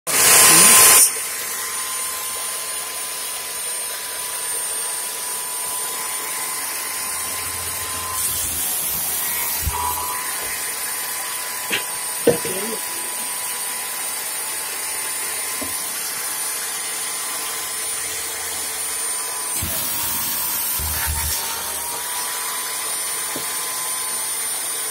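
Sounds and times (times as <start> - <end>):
electric saw motor whining: 0.1 - 24.9.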